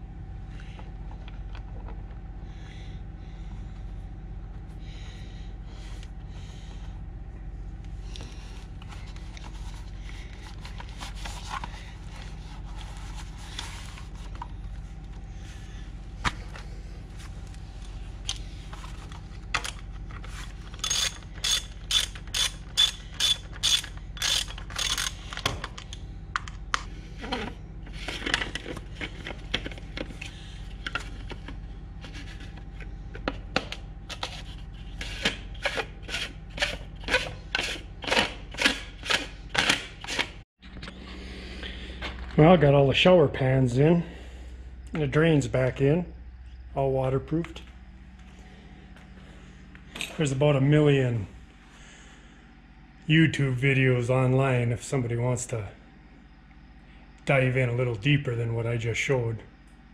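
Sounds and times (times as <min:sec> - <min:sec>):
low hum: 0:00.0 - 0:59.9.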